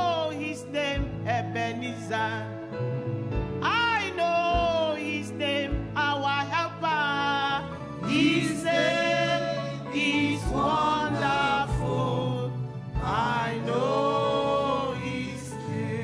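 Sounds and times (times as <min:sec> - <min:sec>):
sustained keyboard chords: 0:00.0 - 0:16.0.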